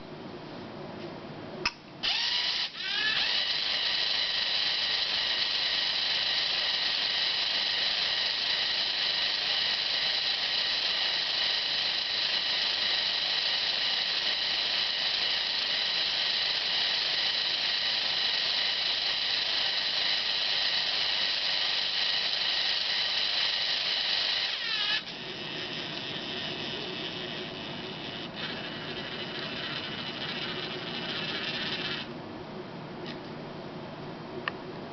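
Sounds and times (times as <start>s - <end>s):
small electric motor whining: 2.0s - 32.1s.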